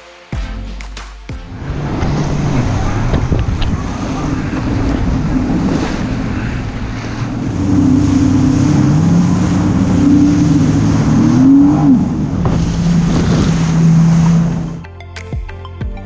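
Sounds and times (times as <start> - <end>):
wind and water rushing: 1.5 - 14.8
jet ski engine running: 1.6 - 14.8.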